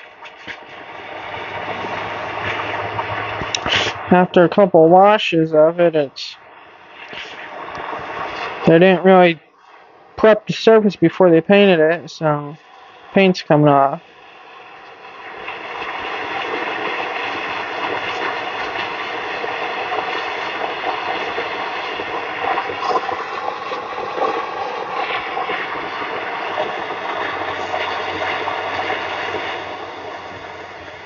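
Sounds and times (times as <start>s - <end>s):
propane torch hissing: 0.0s - 4.9s, 6.4s - 10.2s, 11.3s - 31.0s.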